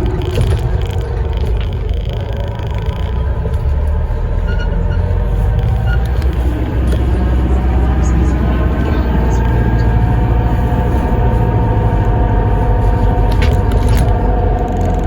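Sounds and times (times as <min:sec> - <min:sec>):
bus drivetrain and road rumble: 0:00.0 - 0:15.0.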